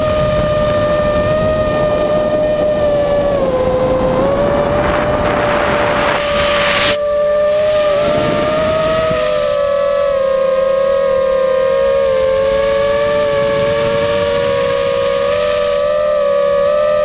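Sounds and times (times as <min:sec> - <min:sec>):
quadcopter motors whining: 0:00.0 - 0:17.0
rush of wind and propellers: 0:00.0 - 0:17.0.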